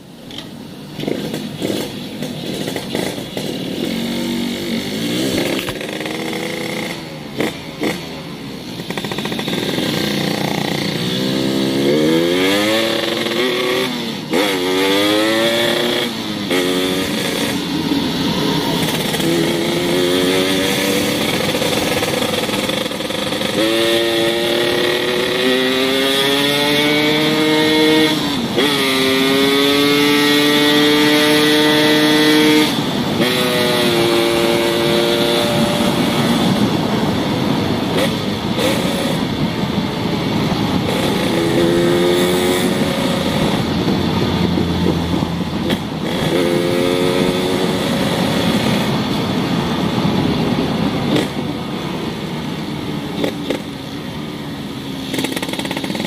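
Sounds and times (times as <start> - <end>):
motorcycle engine revving: 1.0 - 56.0.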